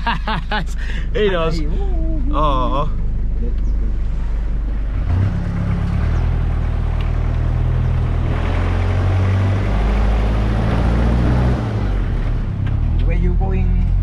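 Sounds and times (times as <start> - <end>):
rushing noise of moving vehicle: 0.0 - 14.0
vehicle engine drone: 0.0 - 14.0.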